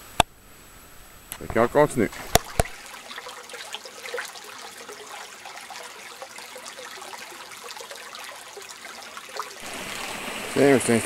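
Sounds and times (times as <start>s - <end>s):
stream trickling: 1.3s - 11.0s.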